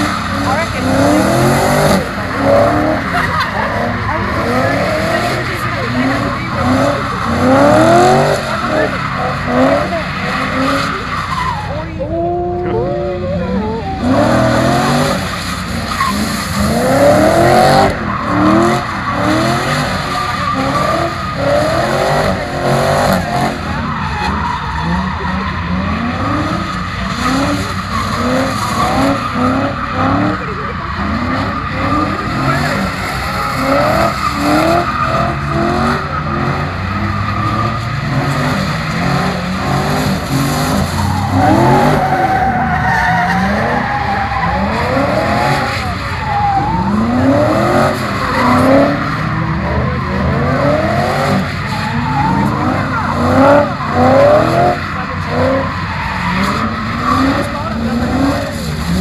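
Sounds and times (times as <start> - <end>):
tyres skidding on wet surface: 0.0 - 12.4, 13.9 - 59.0
engine revving hard: 0.0 - 13.2, 14.0 - 59.0.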